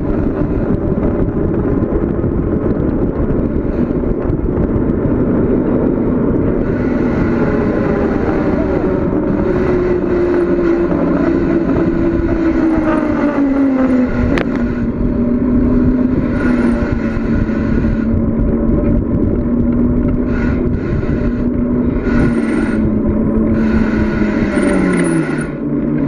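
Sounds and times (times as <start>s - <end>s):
bicycle road noise: 0.0s - 26.0s
humming tone: 0.0s - 26.0s
wind rushing over microphone: 0.0s - 26.0s.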